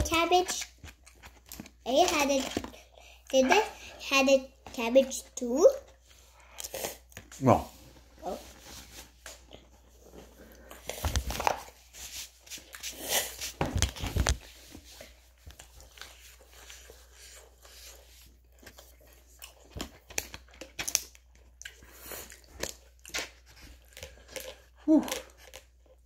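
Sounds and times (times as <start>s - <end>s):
person chewing food: 0.4s - 4.0s, 5.9s - 7.4s, 9.1s - 26.0s.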